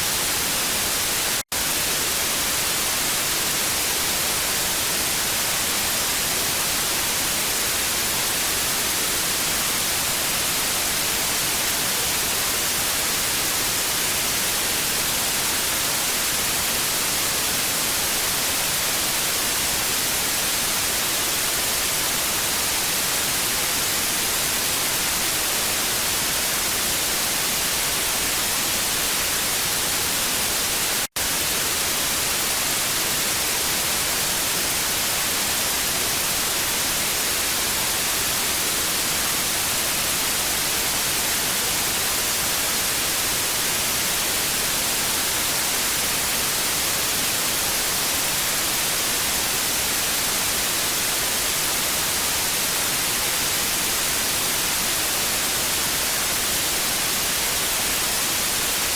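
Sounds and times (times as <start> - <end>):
tv static hiss: 0.0 - 58.9.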